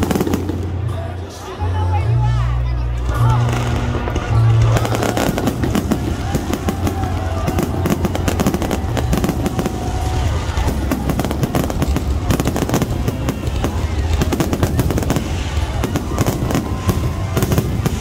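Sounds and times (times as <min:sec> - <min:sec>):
fireworks bangs and crackles: 0:00.0 - 0:01.4, 0:03.0 - 0:18.0.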